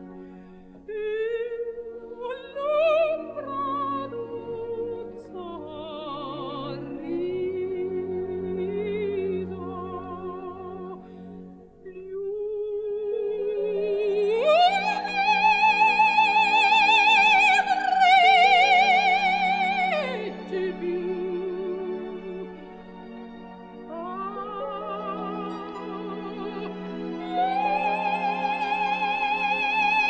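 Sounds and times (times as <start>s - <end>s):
low sustained accompaniment: 0.0s - 30.0s
operatic singing with vibrato: 0.8s - 30.0s.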